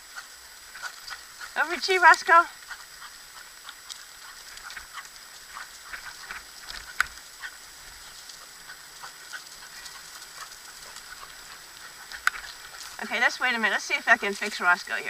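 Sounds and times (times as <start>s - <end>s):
dogs running pattering: 0.1s - 15.0s.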